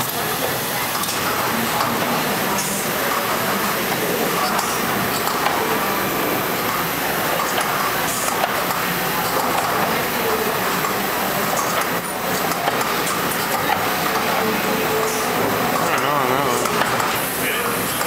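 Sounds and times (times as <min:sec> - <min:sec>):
assembly line mechanical din: 0:00.0 - 0:18.0.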